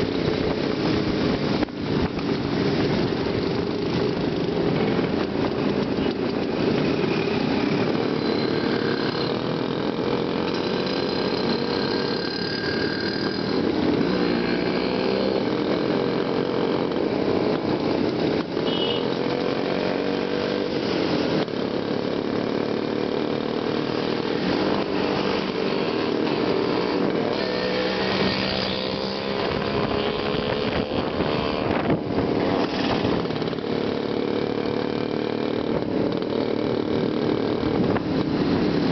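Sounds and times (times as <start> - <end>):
group of motorcycle engines: 0.0 - 38.9.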